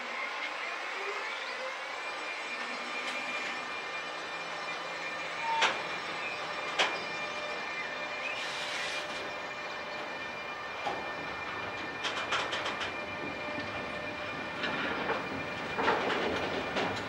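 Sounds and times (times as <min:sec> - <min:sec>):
wheels rumbling on rails: 0:02.6 - 0:17.0.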